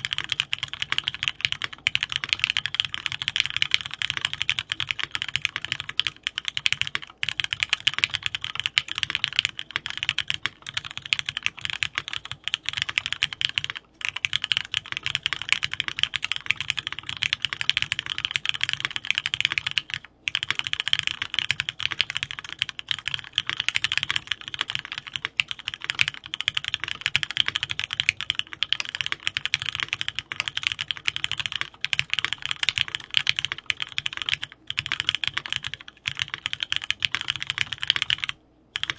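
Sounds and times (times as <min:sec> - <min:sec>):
computer keyboard typing: 0:00.0 - 0:38.9.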